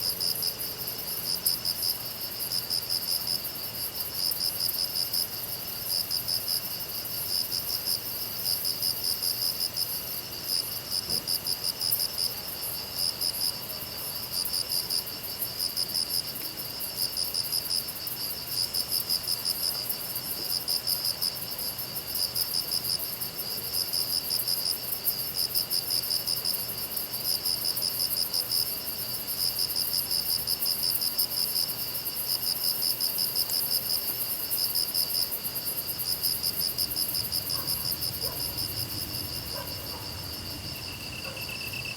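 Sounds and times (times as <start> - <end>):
crickets chirping: 0.0 - 41.9
insect trill: 0.1 - 41.9.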